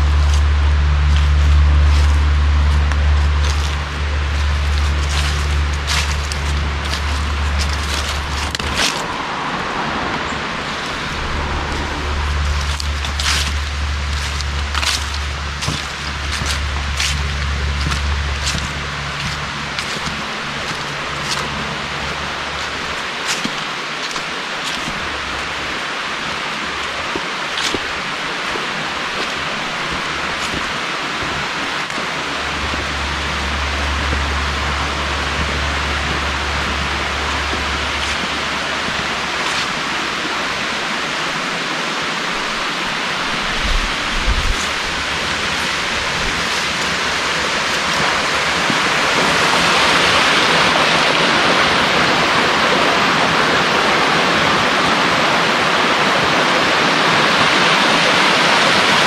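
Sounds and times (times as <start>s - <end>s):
low bumps: 0.0s - 41.6s, 42.2s - 52.4s
flowing water rushing: 0.0s - 59.0s.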